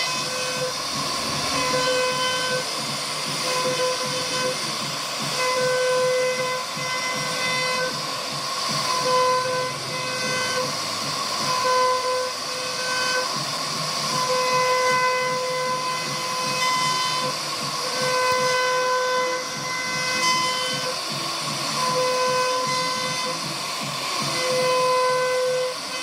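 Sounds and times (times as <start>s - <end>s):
machine whine: 0.0s - 26.0s
router spindle hissing: 0.0s - 26.0s.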